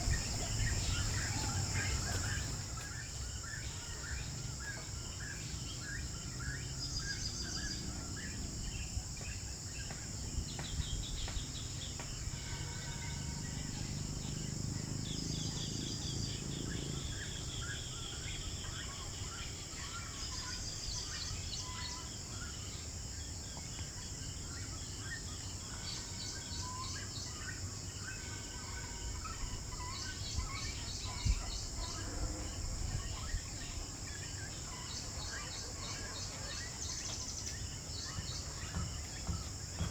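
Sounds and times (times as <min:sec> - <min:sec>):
high insect buzz: 0:00.0 - 0:39.9.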